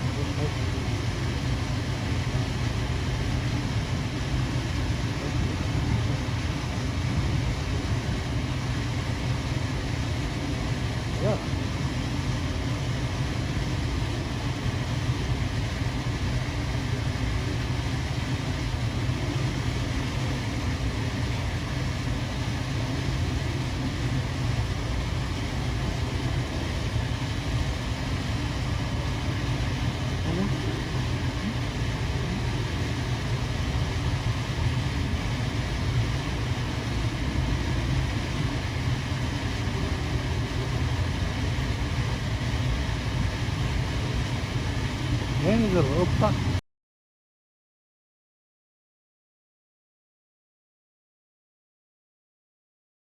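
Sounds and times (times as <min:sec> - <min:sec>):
steady low rumble: 0:00.0 - 0:46.6.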